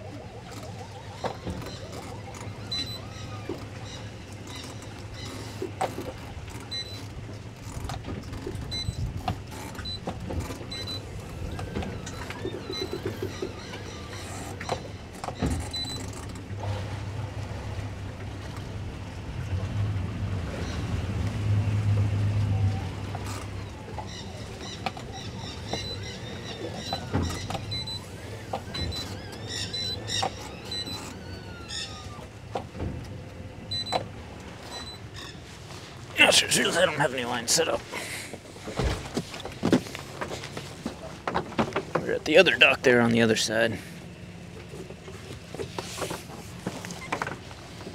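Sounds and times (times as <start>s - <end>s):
boat engine idling: 0.0s - 47.9s.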